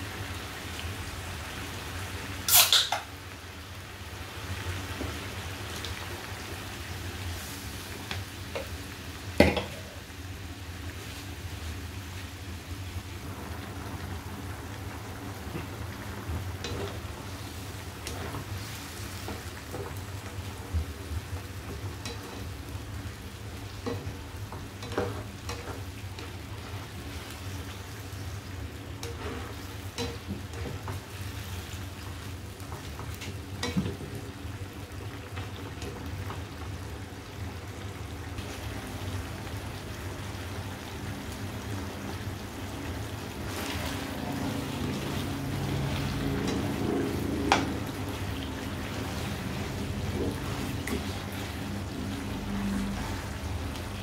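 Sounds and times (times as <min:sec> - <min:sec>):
chicken sizzling and bubbling in sauce: 0:00.0 - 0:54.0.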